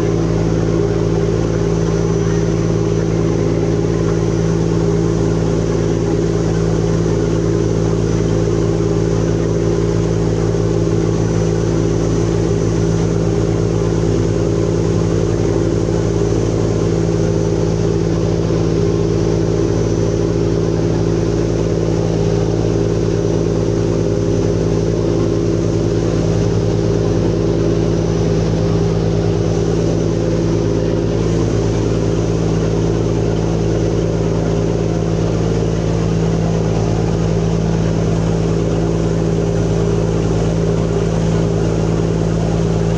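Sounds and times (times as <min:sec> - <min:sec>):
diesel engine humming: 0:00.0 - 0:42.9
water rushing: 0:00.0 - 0:42.9
wind: 0:00.0 - 0:42.9.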